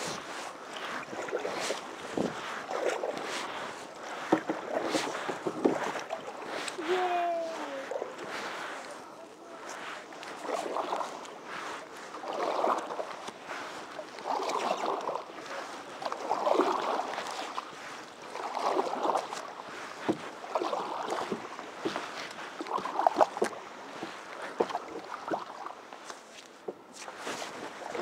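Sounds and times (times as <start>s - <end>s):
paddle splashing in water: 0.0s - 28.0s.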